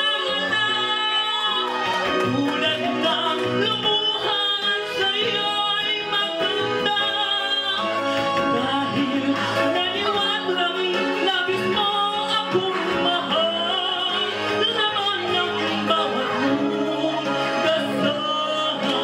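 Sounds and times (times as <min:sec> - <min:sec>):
instrumental accompaniment: 0:00.0 - 0:19.0
woman singing into microphone: 0:00.0 - 0:19.0.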